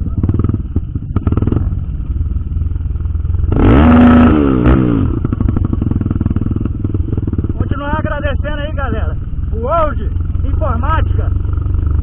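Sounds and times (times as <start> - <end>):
louder engine passing by: 0.0 - 12.0
motorcycle engine running: 0.0 - 12.0.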